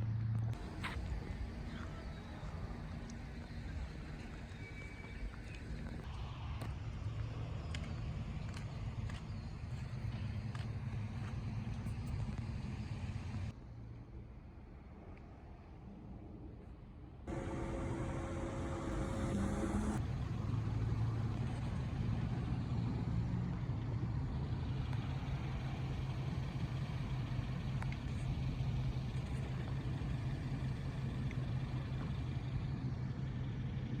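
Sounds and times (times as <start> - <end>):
vehicle engine running: 0.0 - 13.5, 17.3 - 34.0.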